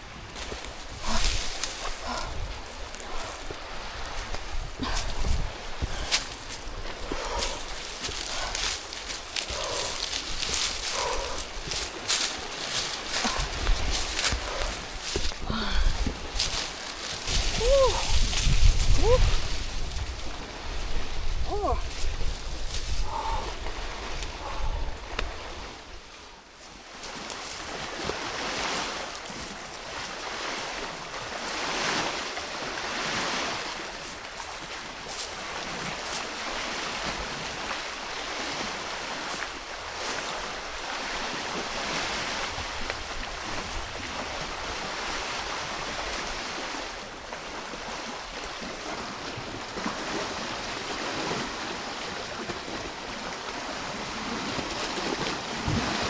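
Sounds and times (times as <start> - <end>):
rushing water: 0.0 - 26.1, 26.8 - 56.0.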